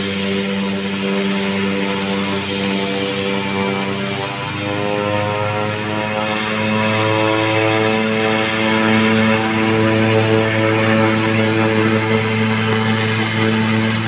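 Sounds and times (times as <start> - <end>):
turboprop plane taxiing: 0.0 - 14.0.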